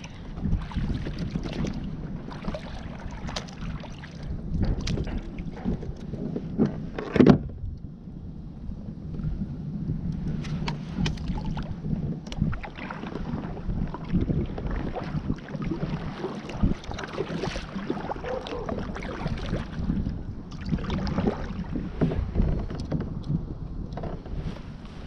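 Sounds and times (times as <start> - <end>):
water sloshing around boat: 0.0 - 7.8, 9.0 - 25.0.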